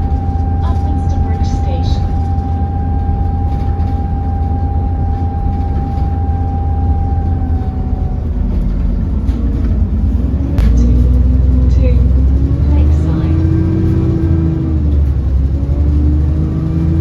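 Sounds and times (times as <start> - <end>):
bus engine rumble: 0.0 - 17.0
steady high whine: 0.0 - 17.0.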